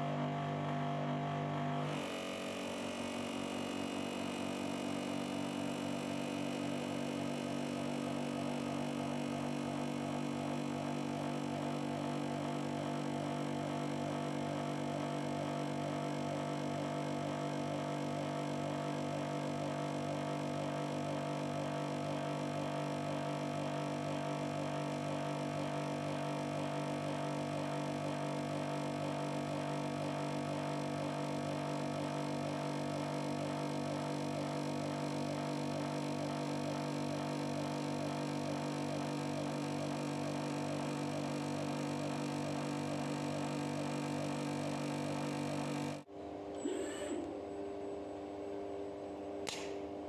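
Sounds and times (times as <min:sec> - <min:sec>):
bench grinder motor humming: 0:00.0 - 0:46.8.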